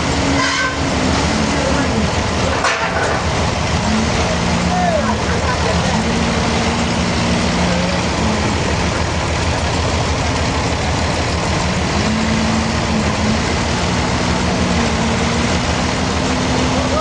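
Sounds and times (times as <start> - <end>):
heavy engine drone: 0.0 - 17.0.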